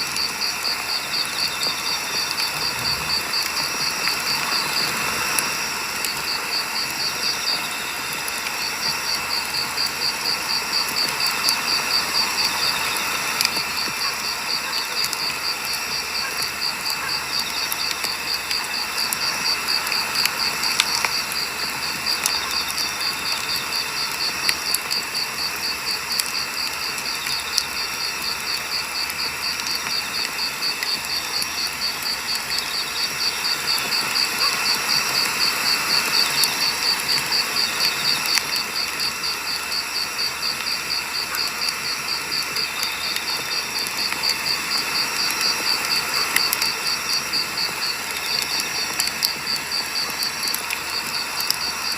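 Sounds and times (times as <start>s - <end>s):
firewood crackling and popping: 0.0s - 51.9s.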